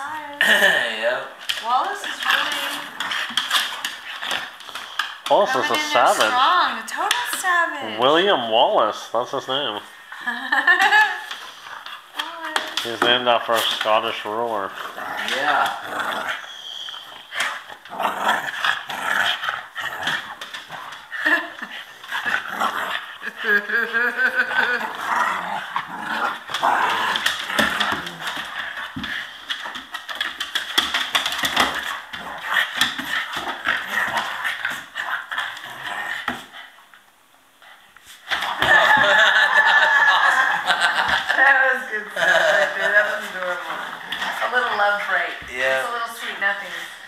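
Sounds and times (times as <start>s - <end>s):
puppies growling and barking: 1.4s - 6.6s, 10.0s - 45.4s.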